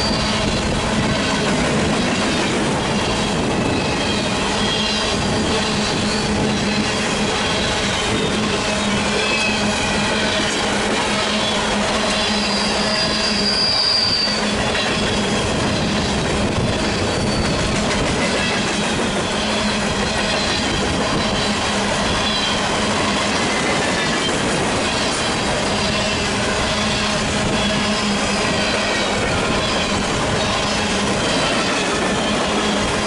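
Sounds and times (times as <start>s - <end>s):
high wheel squeal: 0.0s - 33.0s
train wheels rumbling on rails: 0.0s - 33.0s.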